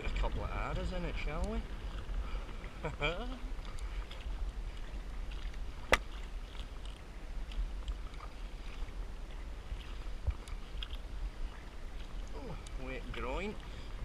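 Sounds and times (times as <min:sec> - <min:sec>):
paddle strokes splashing: 0:00.0 - 0:14.0.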